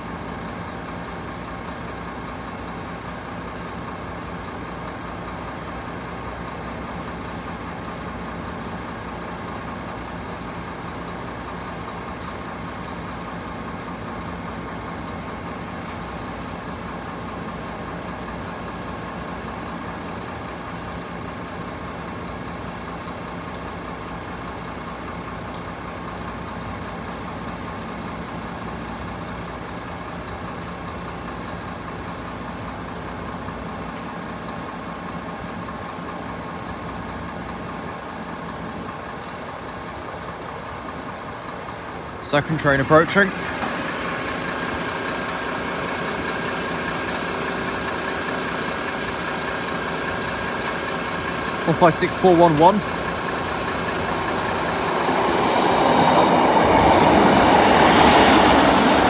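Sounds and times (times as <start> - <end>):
engines idling drone: 0.0 - 59.0.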